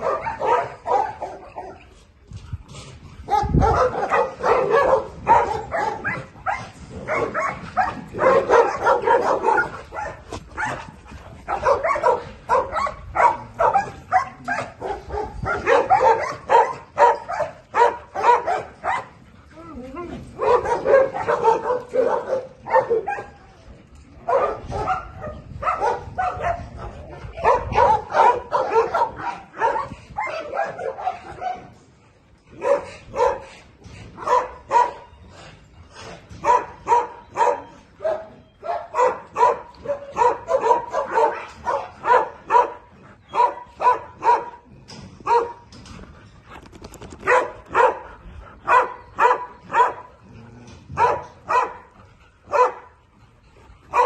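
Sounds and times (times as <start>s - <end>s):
dogs barking: 0.0s - 1.9s, 3.3s - 19.2s, 20.4s - 23.4s, 24.2s - 31.8s, 32.6s - 33.5s, 34.2s - 35.1s, 36.4s - 45.7s, 47.2s - 53.0s.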